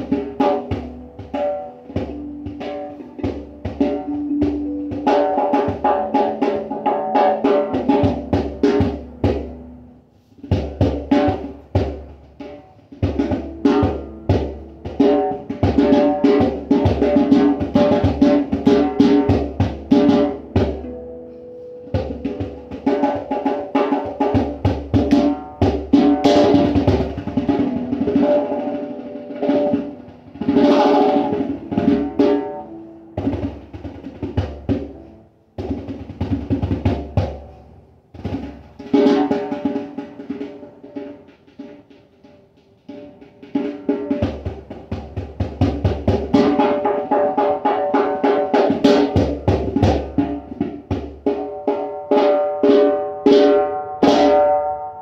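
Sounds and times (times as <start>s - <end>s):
hand drum played fast: 0.0s - 9.8s, 10.5s - 21.0s, 21.9s - 37.6s, 38.2s - 54.5s.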